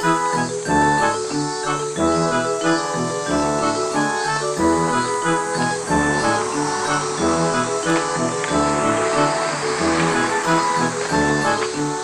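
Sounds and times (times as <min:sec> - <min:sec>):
keyboard tune with beat and bass: 0:00.0 - 0:12.0.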